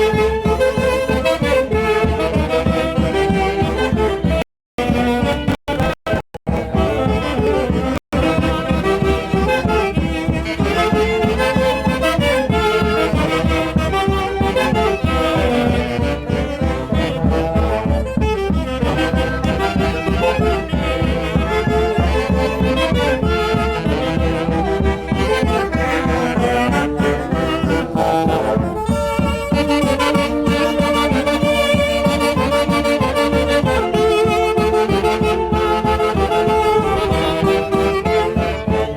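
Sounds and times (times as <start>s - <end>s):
saxophones and brass playing: 0.0s - 38.9s.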